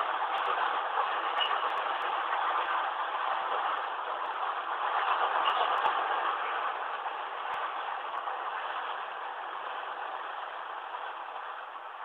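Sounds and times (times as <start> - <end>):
steel wheels rolling on track: 0.0 - 12.0.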